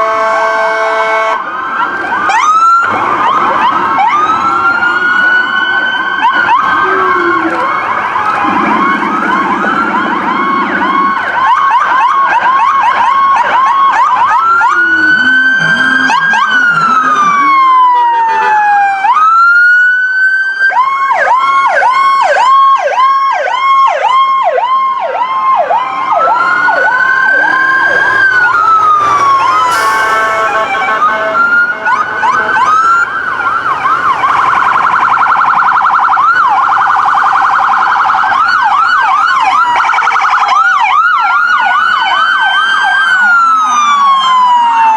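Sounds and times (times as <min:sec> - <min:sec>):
police sirens yelping and wailing: 0:00.0 - 0:44.9.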